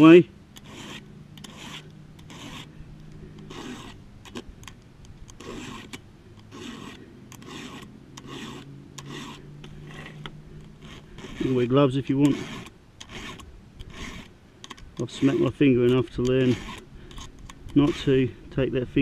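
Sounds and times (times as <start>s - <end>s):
file rasping on chainsaw chain: 0.0s - 19.0s.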